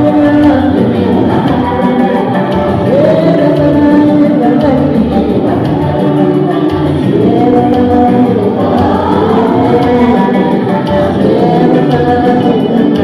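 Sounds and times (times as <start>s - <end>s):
loud music with singing: 0.0s - 13.0s.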